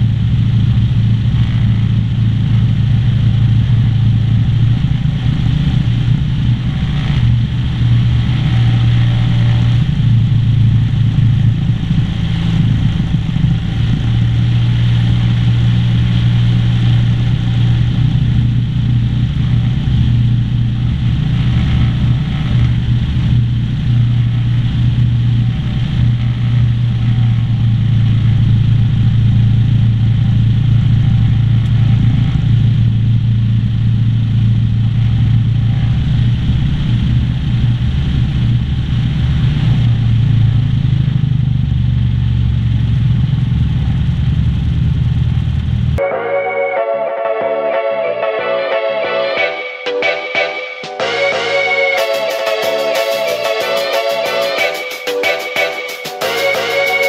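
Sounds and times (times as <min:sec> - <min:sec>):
light aircraft engine running: 0:00.0 - 0:46.0.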